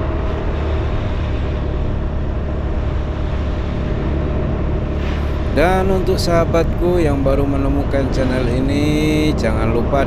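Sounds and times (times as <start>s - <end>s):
road rumble: 0.0s - 10.0s.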